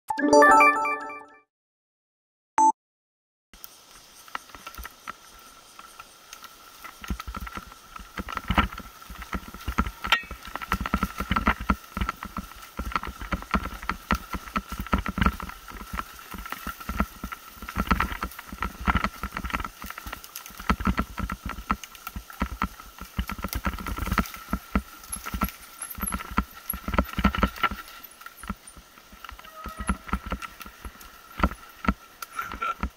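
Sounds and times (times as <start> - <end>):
mountain bike rattling on trail: 3.6 - 32.9
wheels knocking on roots: 3.6 - 32.9.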